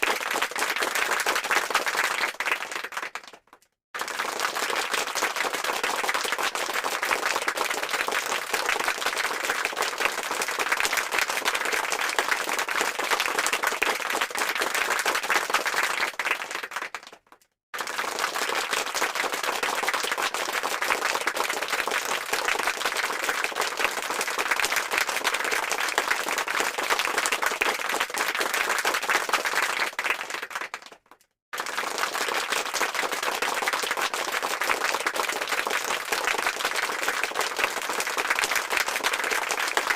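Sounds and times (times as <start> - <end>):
crowd applause: 0.0 - 3.4, 4.0 - 17.2, 17.8 - 31.0, 31.6 - 39.9.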